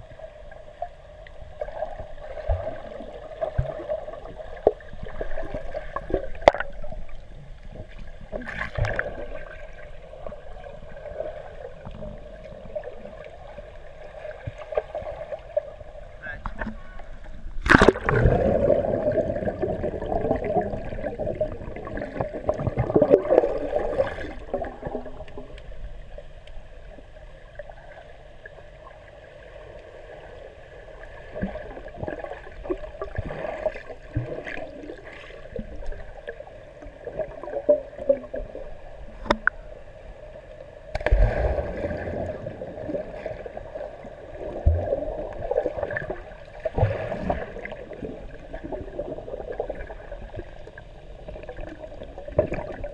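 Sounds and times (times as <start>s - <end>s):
underwater splashing and bubbling: 0.0s - 52.9s.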